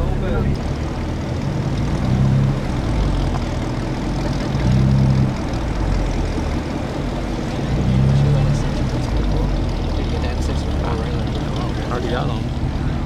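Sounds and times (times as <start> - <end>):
car engine running: 0.0 - 13.0
street traffic passing: 0.0 - 13.0.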